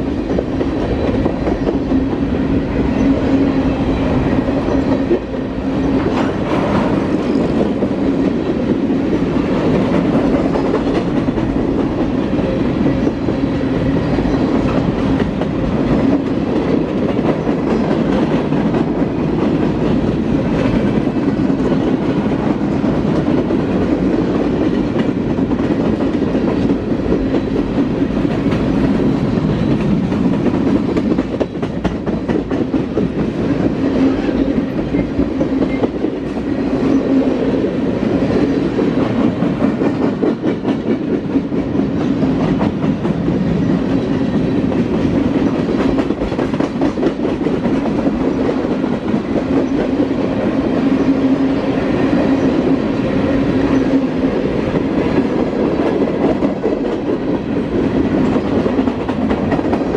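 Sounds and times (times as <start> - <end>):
clickety-clack of rail joints: 0.0 - 59.9
freight train wheels rumbling: 0.0 - 59.9.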